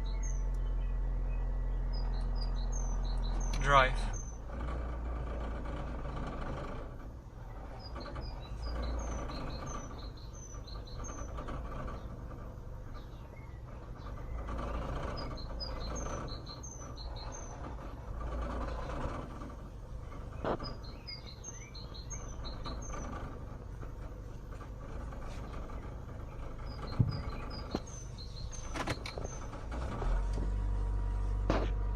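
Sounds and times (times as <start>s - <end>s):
birds chirping: 0.0s - 30.3s
car engine idling roughly: 0.0s - 31.9s.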